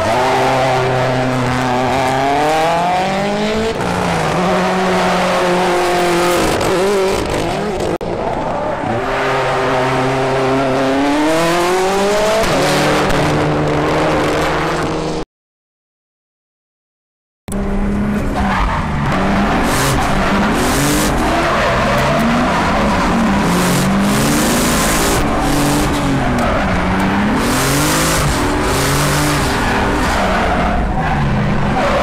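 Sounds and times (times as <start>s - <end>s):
car engine revving through gears: 0.0s - 8.2s, 8.9s - 15.2s, 17.5s - 32.0s.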